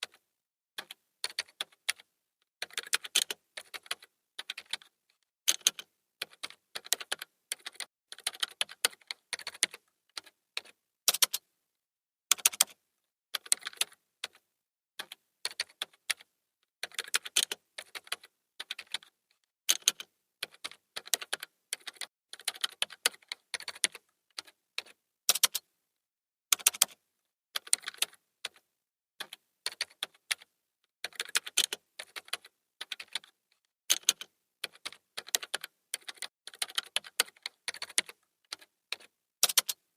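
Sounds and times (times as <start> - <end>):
keyboard typing: 0.8 - 11.4, 12.3 - 12.8, 13.4 - 14.4, 15.0 - 25.6, 26.5 - 27.0, 27.6 - 39.8.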